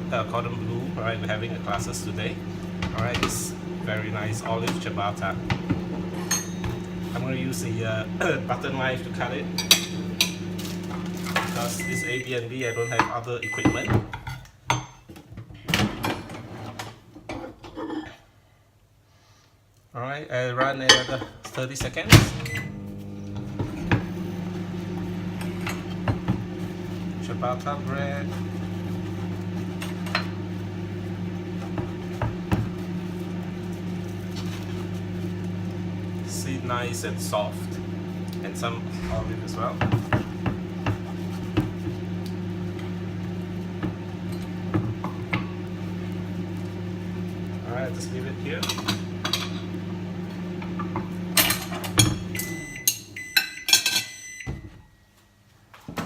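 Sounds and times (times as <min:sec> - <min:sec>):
microwave oven humming: 0:00.0 - 0:14.2, 0:21.3 - 0:56.0.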